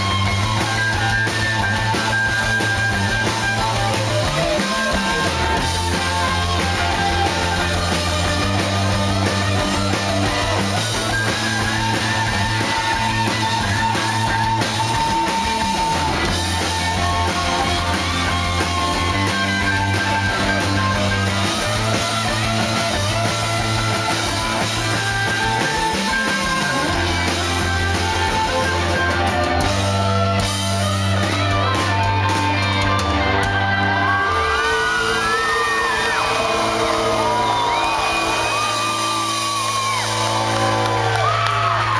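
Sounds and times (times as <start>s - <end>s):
distorted electric guitars: 0.0s - 41.9s
drum kit: 0.0s - 41.9s.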